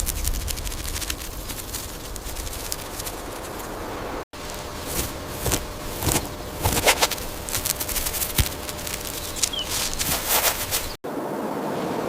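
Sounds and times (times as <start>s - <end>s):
crunching footsteps: 0.0s - 11.0s
outdoor rustle: 0.0s - 11.0s.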